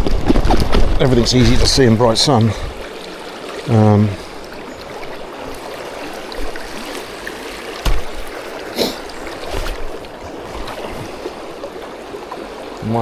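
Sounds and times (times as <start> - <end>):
river water flowing: 0.1 - 13.0.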